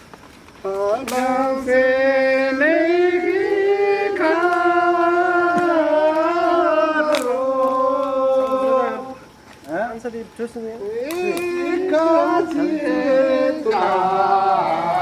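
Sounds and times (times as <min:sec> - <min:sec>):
person singing long notes: 0:00.6 - 0:09.3, 0:10.9 - 0:15.0.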